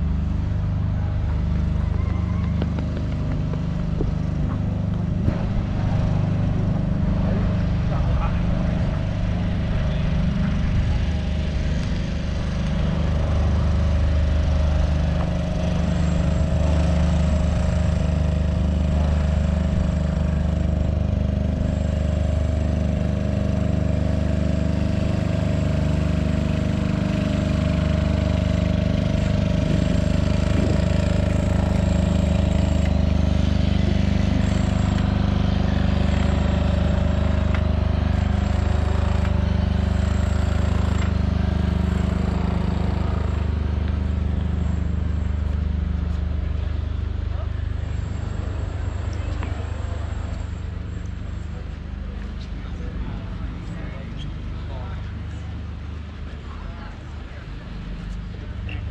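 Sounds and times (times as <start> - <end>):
machine drone: 0.0 - 58.9.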